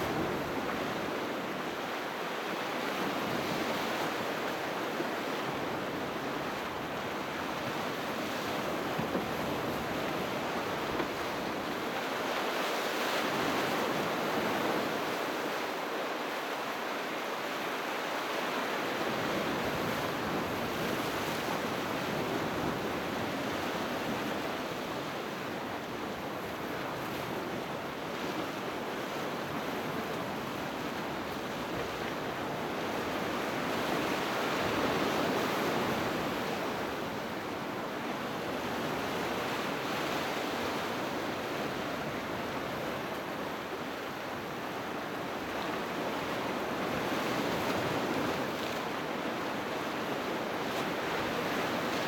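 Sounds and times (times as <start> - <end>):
sea waves breaking on shore: 0.0 - 52.0.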